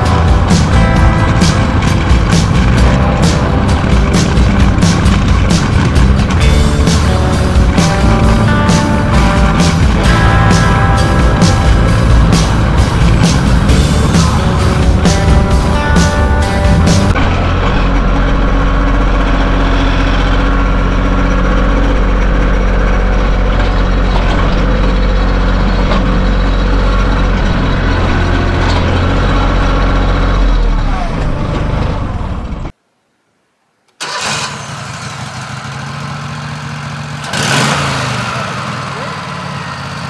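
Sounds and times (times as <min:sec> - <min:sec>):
engine idling: 0:00.0 - 0:32.7, 0:34.0 - 0:40.0
tractor engine running: 0:00.0 - 0:32.8, 0:34.0 - 0:40.0.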